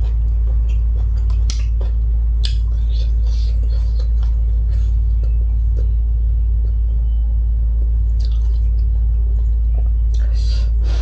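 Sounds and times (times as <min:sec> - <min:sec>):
person chewing food: 0:00.0 - 0:06.0, 0:08.1 - 0:11.0
deep low rumble: 0:00.0 - 0:11.0.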